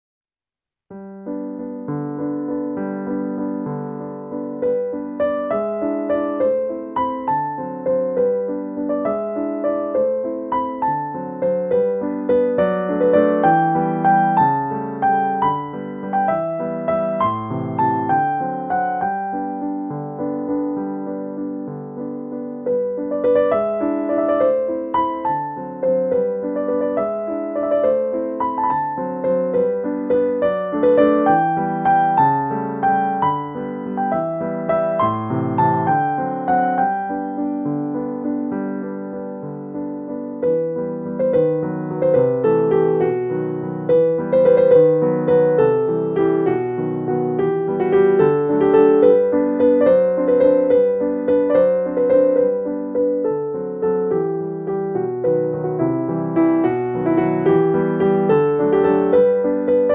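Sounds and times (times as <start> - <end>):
gentle piano music: 0.9 - 59.9.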